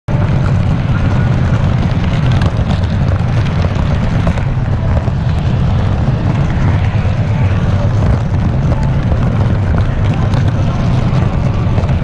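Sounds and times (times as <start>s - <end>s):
model train rumbling on track: 0.1s - 12.0s.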